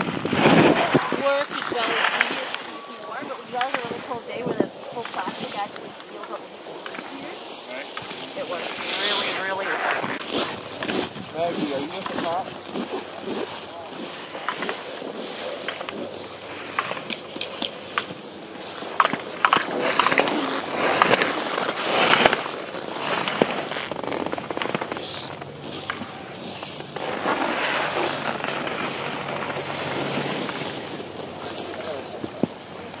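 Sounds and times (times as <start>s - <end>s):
skis scraping over snow: 0.0s - 33.0s.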